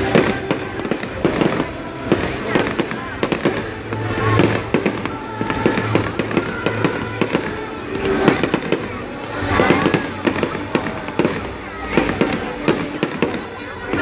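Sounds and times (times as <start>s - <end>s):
fireworks bangs and crackles: 0.0s - 14.0s
people's voices: 0.0s - 14.0s.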